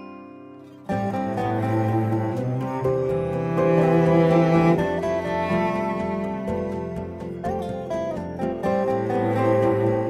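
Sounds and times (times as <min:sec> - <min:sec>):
slow bowed string melody: 0:00.0 - 0:10.0.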